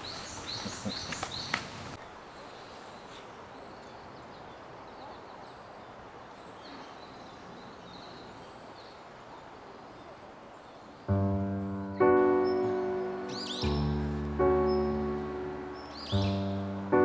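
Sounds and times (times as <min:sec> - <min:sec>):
distant small birds chirping: 0:00.0 - 0:17.0
outdoor background hiss: 0:00.0 - 0:17.0.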